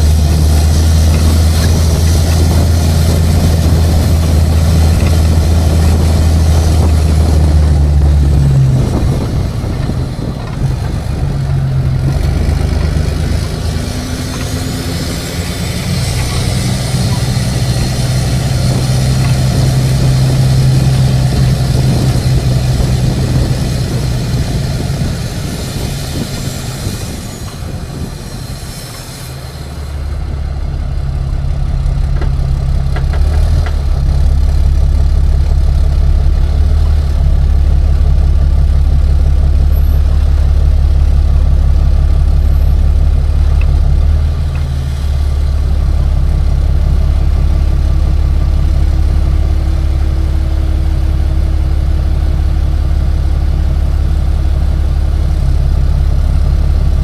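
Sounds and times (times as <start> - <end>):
road noise: 0.0 - 57.0
truck engine droning: 0.0 - 57.0.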